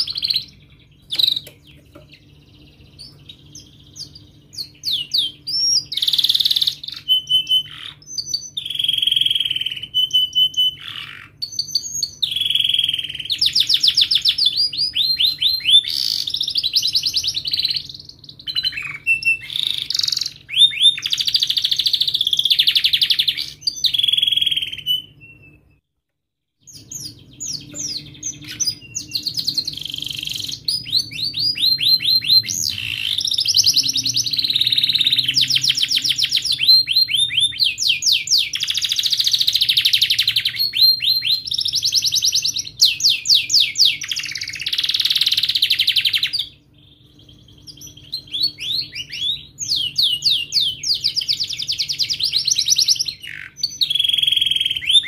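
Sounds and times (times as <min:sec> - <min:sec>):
canary singing chirps and trills: 0:00.0 - 0:25.8, 0:26.6 - 0:55.0.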